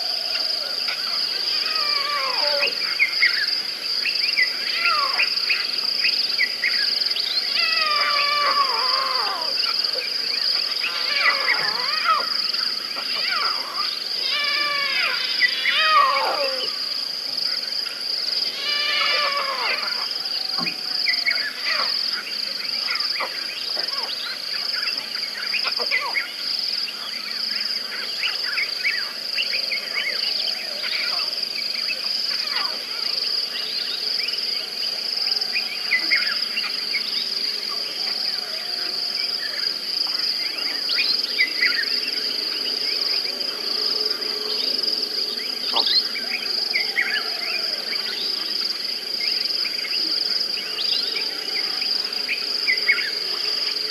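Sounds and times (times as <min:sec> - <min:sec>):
insects chorus with crickets: 0:00.0 - 0:53.9.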